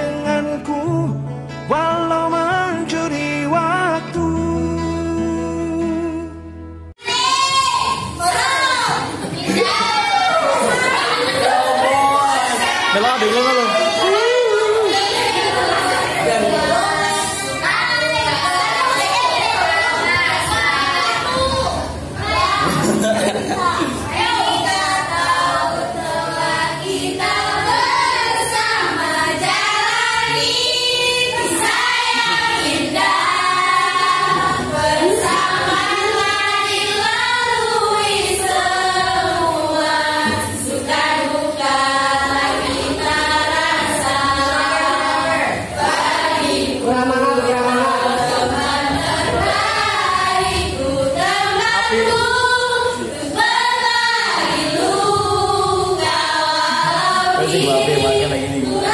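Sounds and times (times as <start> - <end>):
group of young voices singing: 7.0 - 58.9.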